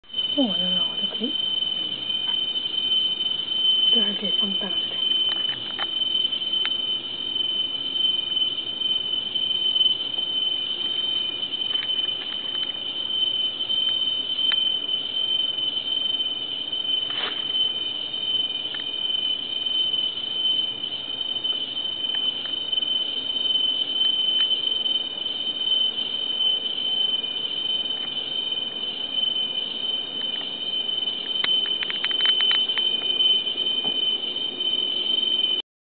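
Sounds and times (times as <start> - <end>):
shrill insect chorus: 0.0 - 35.6.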